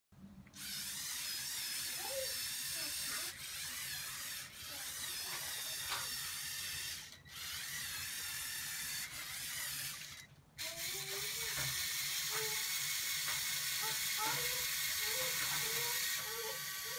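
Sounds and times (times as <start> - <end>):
toy motors and gears whirring: 0.6 - 16.9.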